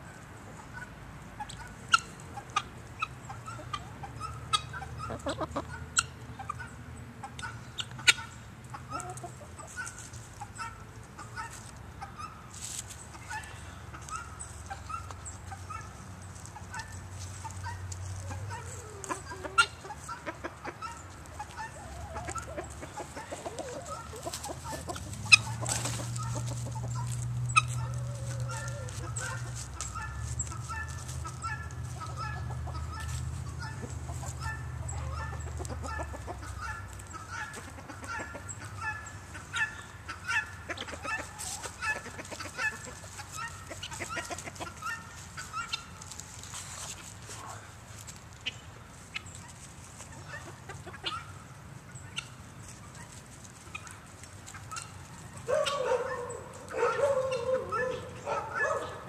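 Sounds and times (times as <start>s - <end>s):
chickens and guinea fowl clucking: 0.0s - 59.0s.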